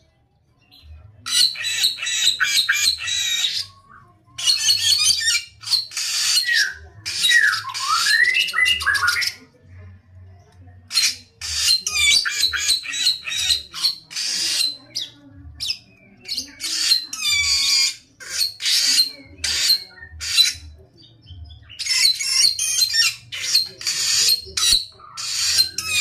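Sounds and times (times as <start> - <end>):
songbird singing: 0.6 - 9.4, 10.9 - 26.0.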